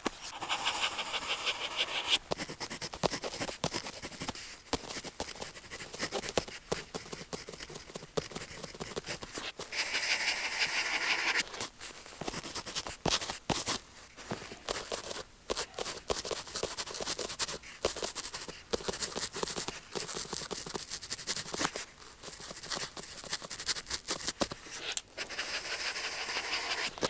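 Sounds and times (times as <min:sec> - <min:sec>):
pen scribbling on paper: 0:00.3 - 0:11.4, 0:14.7 - 0:27.0.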